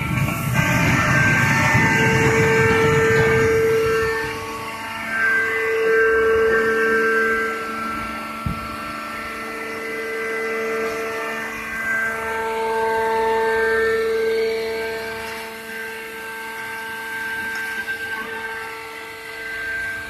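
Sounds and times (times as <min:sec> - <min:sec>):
hydraulic pump whine: 0:00.0 - 0:20.0.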